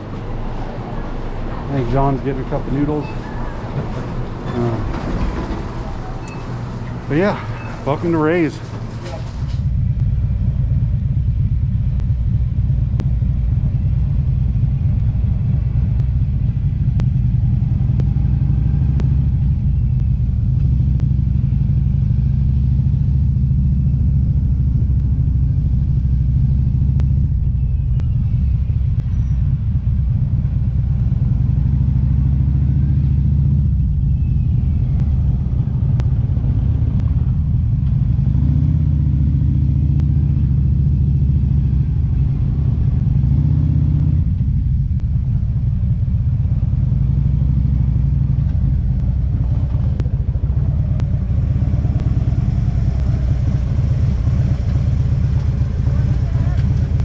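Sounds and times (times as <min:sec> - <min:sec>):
motorcycle engine cruising: 0:00.0 - 0:57.0
road rumble: 0:00.0 - 0:57.0.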